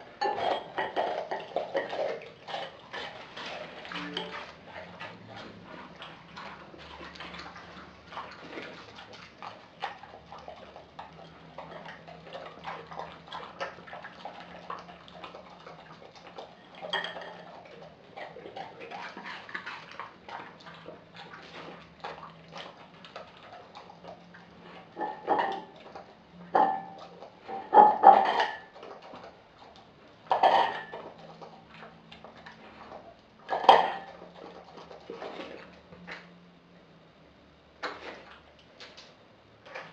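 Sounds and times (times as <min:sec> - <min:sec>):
dog chewing and licking: 0:00.0 - 0:36.4, 0:37.8 - 0:39.9.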